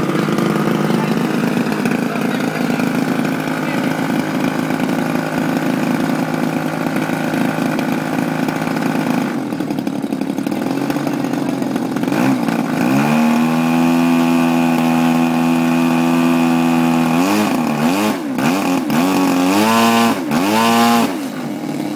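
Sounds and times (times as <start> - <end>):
model airplane engine revving: 0.0 - 21.9.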